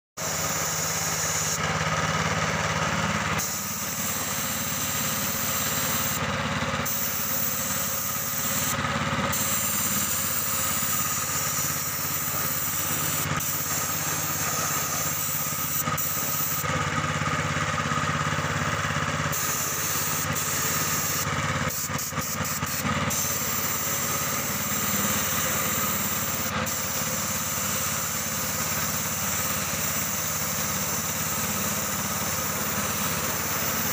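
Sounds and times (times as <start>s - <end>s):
air compressor engine running: 0.1s - 33.9s
paint spray gun hissing: 0.2s - 17.4s, 18.1s - 33.9s.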